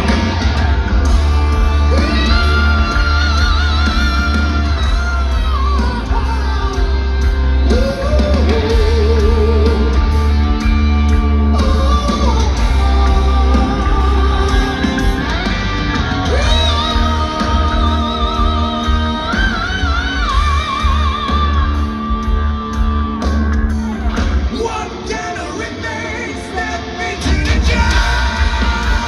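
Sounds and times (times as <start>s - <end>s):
bass and drums pounding: 0.0s - 24.8s, 27.2s - 29.0s
distorted electric guitars: 0.0s - 29.0s
person singing: 1.1s - 10.5s, 11.1s - 22.7s, 24.5s - 29.0s.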